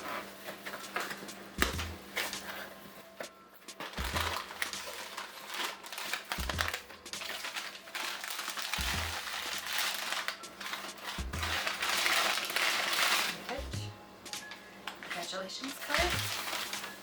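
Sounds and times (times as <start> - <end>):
packaging crinkling and rustling: 0.0 - 13.7, 14.4 - 17.0.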